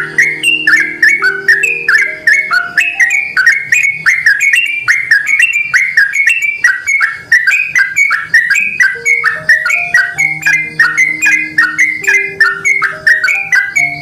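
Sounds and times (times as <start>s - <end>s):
bird singing bubbly whistled notes: 0.0s - 14.0s.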